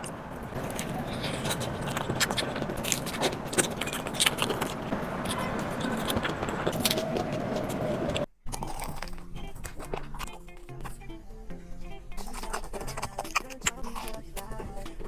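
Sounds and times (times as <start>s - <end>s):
crunching and chewing crispy food: 0.0s - 15.0s.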